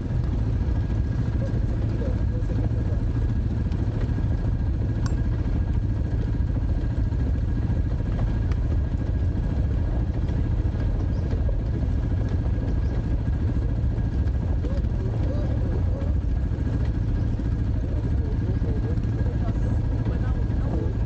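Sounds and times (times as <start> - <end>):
dirt bike engine droning: 0.0 - 21.0.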